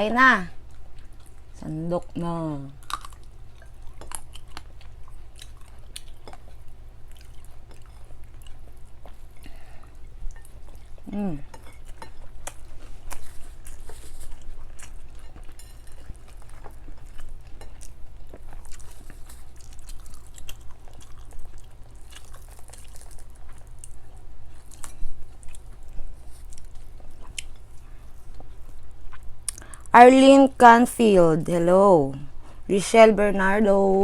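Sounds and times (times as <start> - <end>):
steady low hum: 0.0 - 34.0
chewing and crunching food: 0.2 - 30.3.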